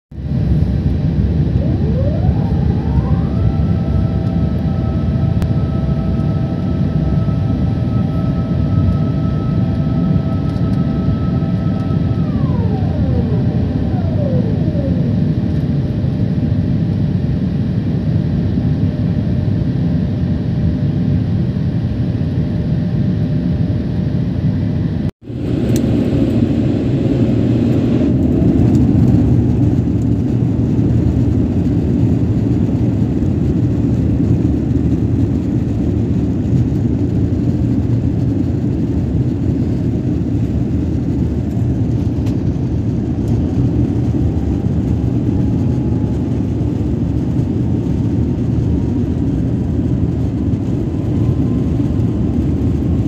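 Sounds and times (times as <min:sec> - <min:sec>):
jet engine rumble in cabin: 0:00.2 - 0:53.0
rising engine whine: 0:00.2 - 0:53.0.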